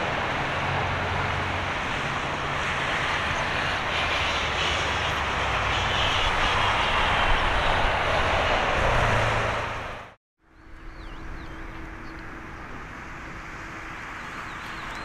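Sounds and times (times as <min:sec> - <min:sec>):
jet engines roaring on takeoff: 0:00.0 - 0:15.0.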